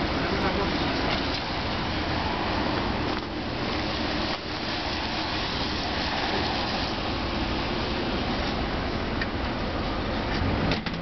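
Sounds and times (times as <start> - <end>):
car engines: 0.0 - 11.0
tyres hissing on wet road: 0.0 - 11.0.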